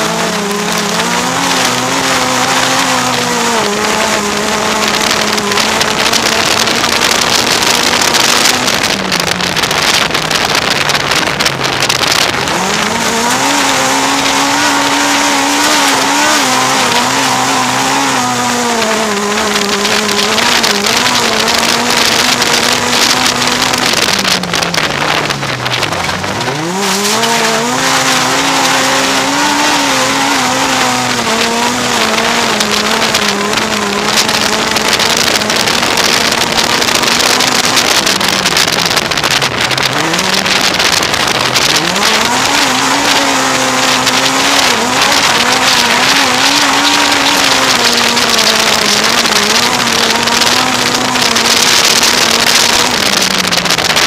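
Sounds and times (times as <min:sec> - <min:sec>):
race car engine at high revs: 0:00.0 - 0:54.0
wind: 0:00.0 - 0:54.0.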